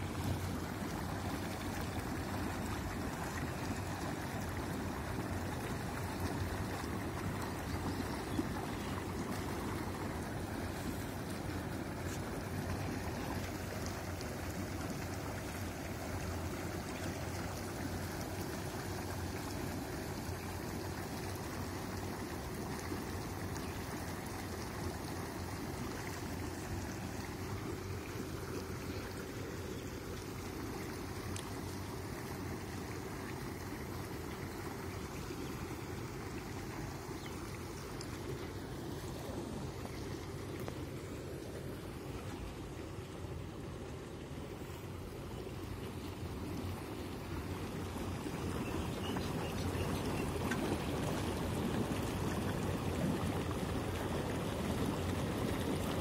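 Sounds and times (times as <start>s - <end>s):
bubbling churning water: 0.0s - 56.0s
low machine hum: 0.0s - 56.0s.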